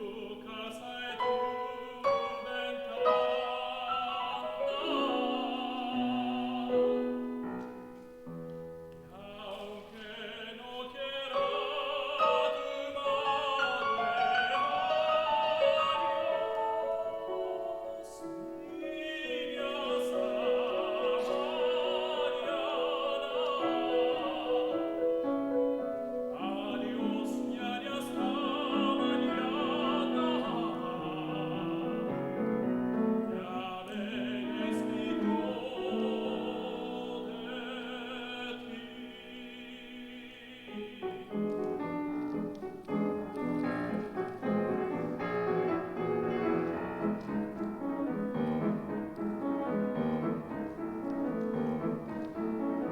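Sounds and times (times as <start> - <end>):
tenor singing operatically: 0.0 - 7.4, 9.1 - 25.5, 26.2 - 47.4
piano accompaniment: 0.0 - 52.9.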